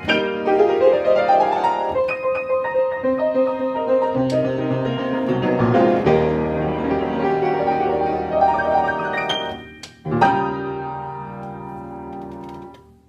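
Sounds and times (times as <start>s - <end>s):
solo upright piano: 0.0s - 13.0s.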